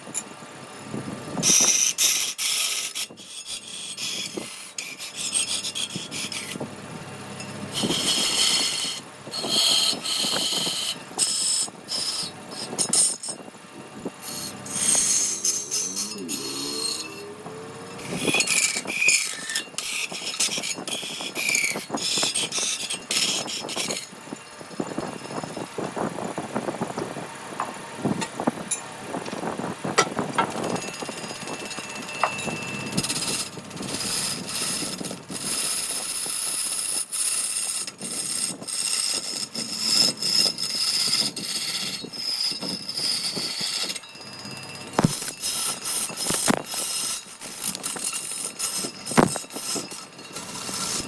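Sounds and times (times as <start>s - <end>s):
power tools whining on wood: 0.0s - 51.0s.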